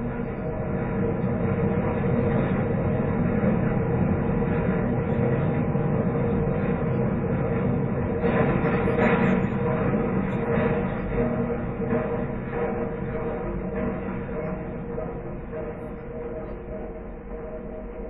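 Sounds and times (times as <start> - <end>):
machinery rumble with hum: 0.0 - 18.0.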